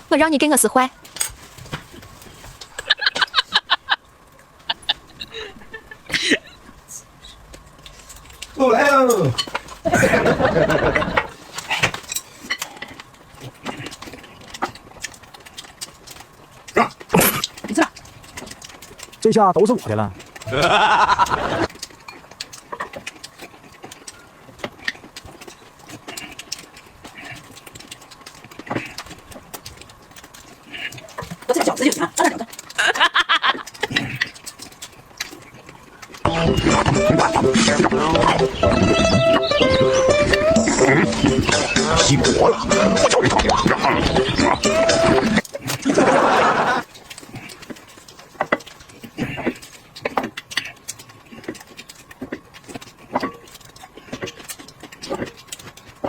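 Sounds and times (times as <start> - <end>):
person chewing food: 1.0 - 8.6, 9.2 - 56.0.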